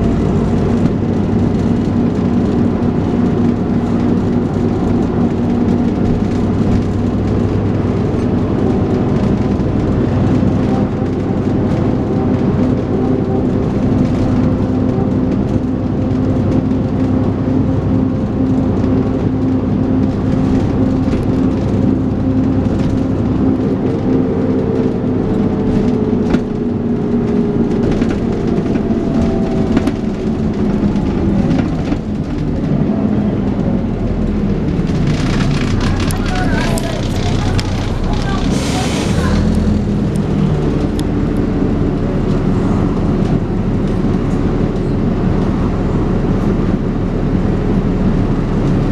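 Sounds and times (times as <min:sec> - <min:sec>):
bus engine drone with whine: 0:00.0 - 0:48.9.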